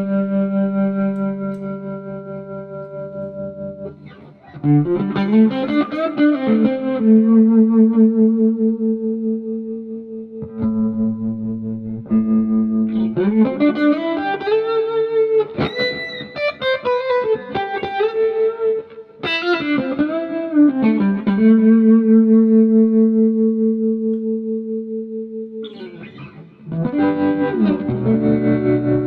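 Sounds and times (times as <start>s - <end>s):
electric guitar lead run: 0.0s - 9.6s, 10.4s - 29.0s
electric guitar with tremolo: 0.0s - 29.0s.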